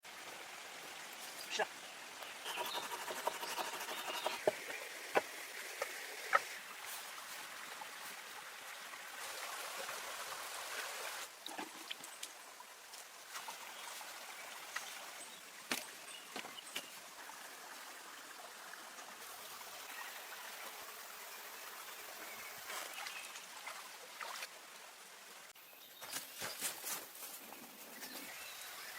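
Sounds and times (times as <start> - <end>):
stream water trickling: 0.0 - 26.0.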